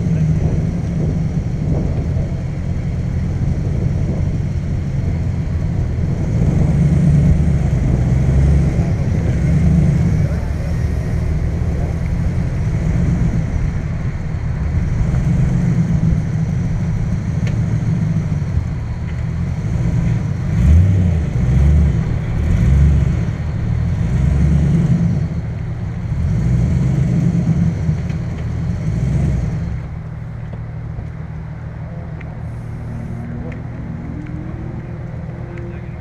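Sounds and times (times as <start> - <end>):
car engine low rumble: 0.0 - 36.0.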